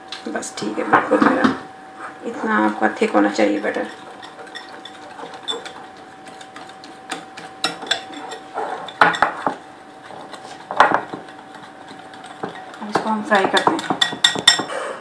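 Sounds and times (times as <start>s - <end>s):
utensils clinking against dishes: 2.4s - 14.7s.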